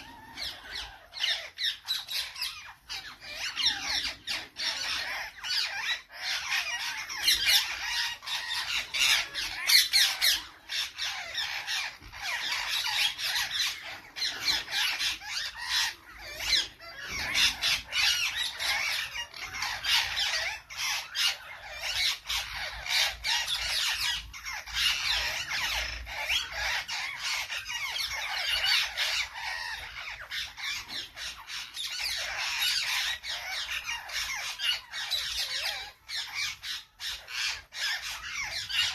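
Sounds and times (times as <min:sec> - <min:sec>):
parrots squawking: 0:00.0 - 0:38.9.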